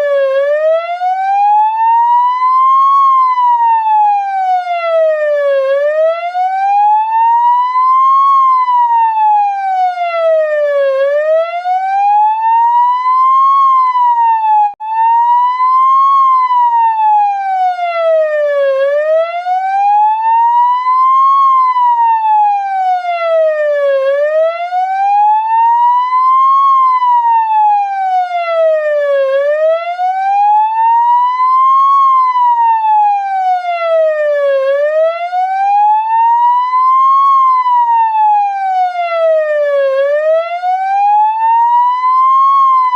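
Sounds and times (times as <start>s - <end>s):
ambulance siren wailing: 0.0s - 42.9s.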